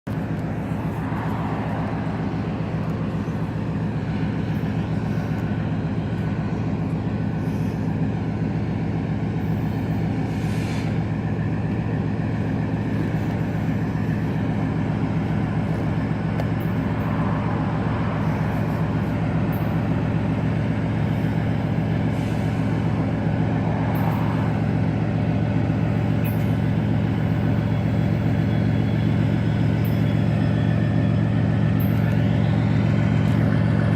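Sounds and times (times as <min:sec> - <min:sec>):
diesel locomotive engine drone: 0:00.0 - 0:33.9.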